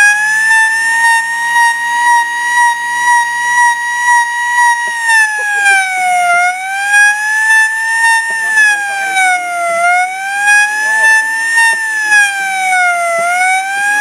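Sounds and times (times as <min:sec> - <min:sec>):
electric siren wailing: 0:00.0 - 0:14.0.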